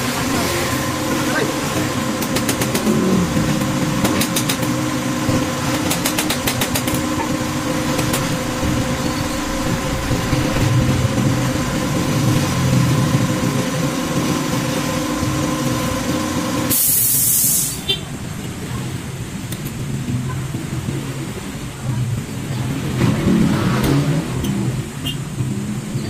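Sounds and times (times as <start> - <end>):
engine running with constant tone: 0.0 - 26.0.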